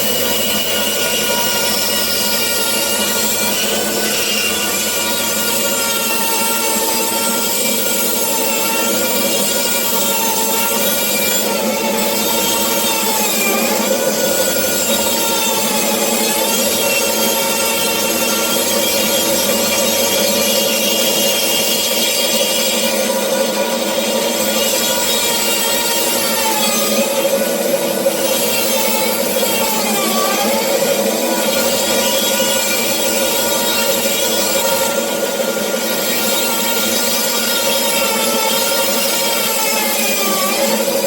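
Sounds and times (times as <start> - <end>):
bandsaw cutting wood: 0.0 - 41.0.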